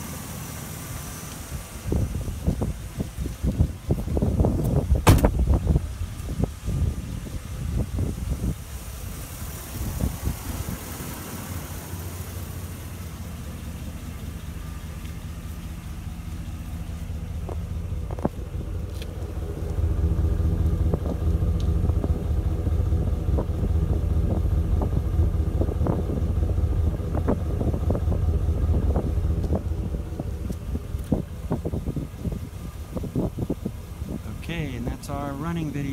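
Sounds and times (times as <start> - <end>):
van engine idling: 0.0 - 35.9.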